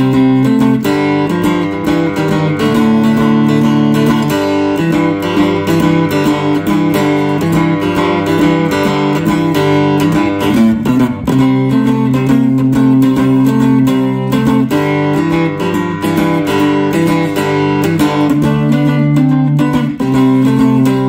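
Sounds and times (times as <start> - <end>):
electric guitar strummed chords: 0.0 - 21.0.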